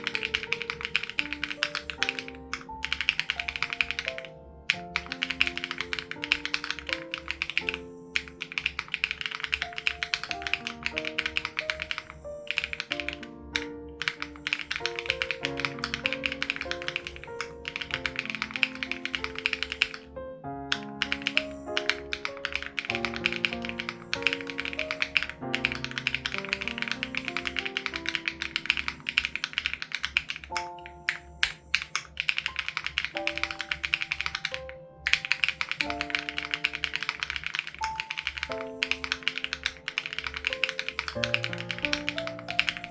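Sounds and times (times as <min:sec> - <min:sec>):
mechanical keyboard typing: 0:00.0 - 0:42.9
soft background music: 0:00.0 - 0:42.9.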